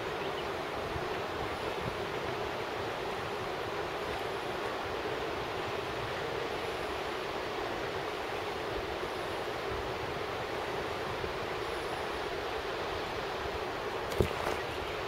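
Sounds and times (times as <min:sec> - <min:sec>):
river rushing over rapids: 0:00.5 - 0:15.0.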